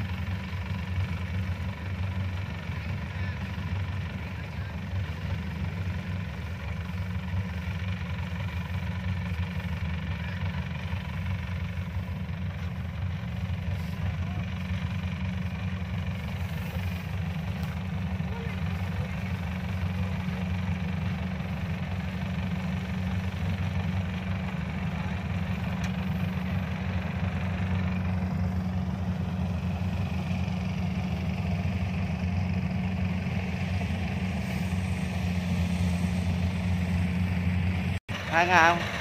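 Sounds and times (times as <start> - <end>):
farm machine engine running: 0.0 - 39.0.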